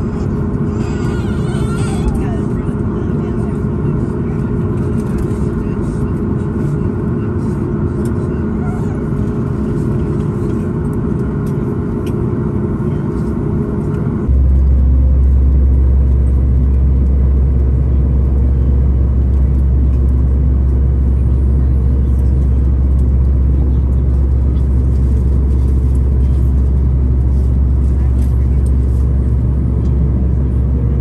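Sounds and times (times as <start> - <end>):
low mechanical rumble: 0.0 - 31.0.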